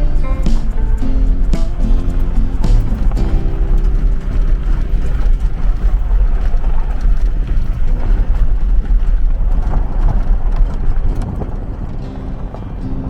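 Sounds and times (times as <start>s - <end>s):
off-road vehicle engine rumble: 0.0s - 13.0s.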